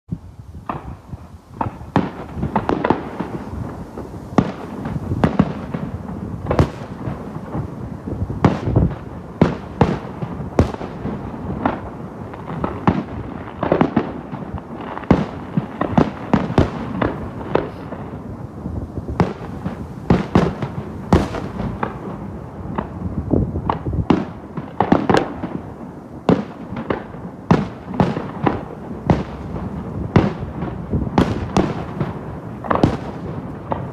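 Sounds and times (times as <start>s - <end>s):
fireworks bursting and crackling: 0.1s - 33.9s.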